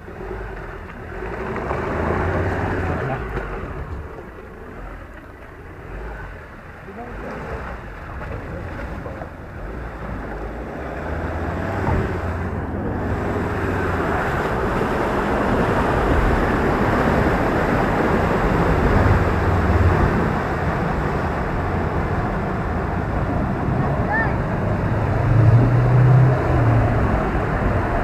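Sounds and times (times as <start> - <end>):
rush of churned water and mud: 0.0 - 28.0
vehicle engine working: 0.0 - 28.0.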